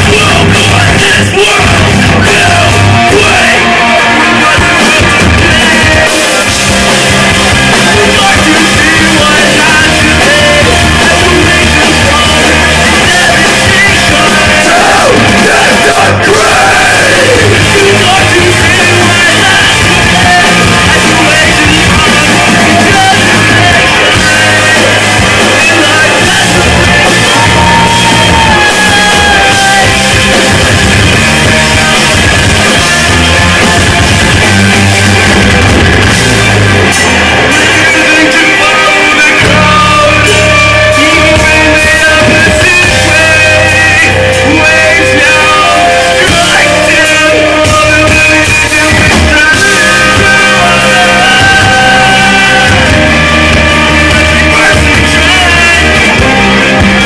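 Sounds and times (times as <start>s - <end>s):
person singing: 0.0s - 33.9s, 36.9s - 57.0s
bass guitar: 0.0s - 57.0s
distorted electric guitars: 0.0s - 57.0s
drums: 0.0s - 57.0s.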